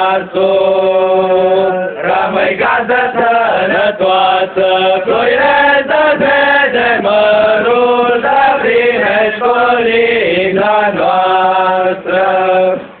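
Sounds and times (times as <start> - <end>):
boys singing in unison: 0.0 - 13.0.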